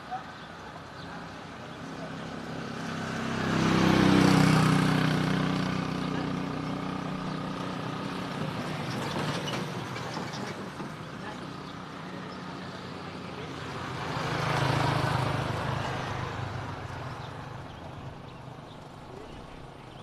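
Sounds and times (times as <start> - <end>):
vehicle engine passing by: 1.0 - 20.0.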